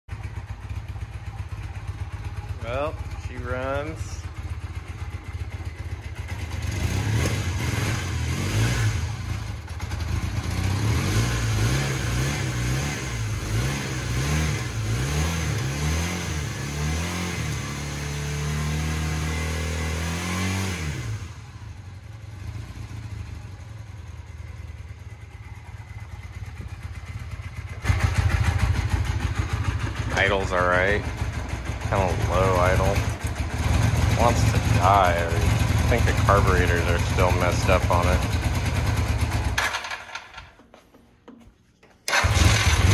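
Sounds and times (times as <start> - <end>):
motorcycle engine revving and idling: 0.1 - 40.6, 42.1 - 42.9.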